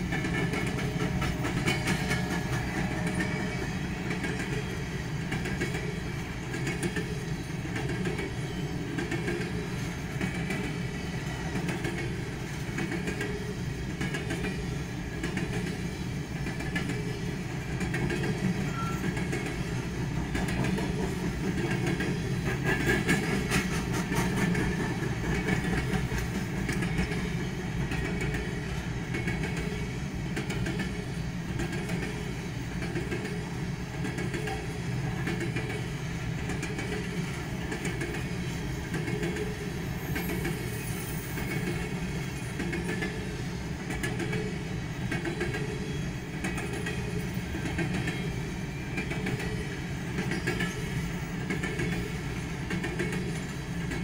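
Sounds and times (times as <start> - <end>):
sharp clacks of train wheels: 0.0 - 54.0
train wheels rumbling on rail: 0.0 - 54.0.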